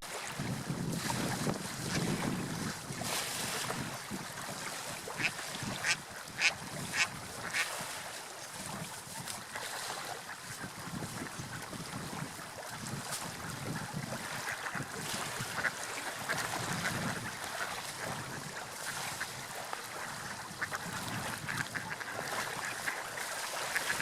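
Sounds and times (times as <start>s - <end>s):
water lapping and splashing: 0.0s - 24.0s.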